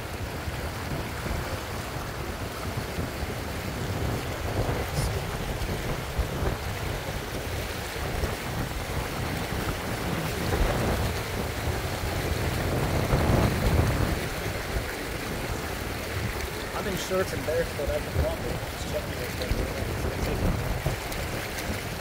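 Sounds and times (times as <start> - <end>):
moving water: 0.0 - 22.0
wind buffeting microphone: 0.0 - 22.0.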